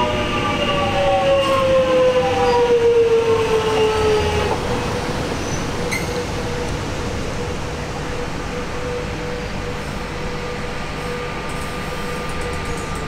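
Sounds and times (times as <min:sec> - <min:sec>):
electric train motor whine: 0:00.0 - 0:13.0
train wheel rumble: 0:00.0 - 0:13.0.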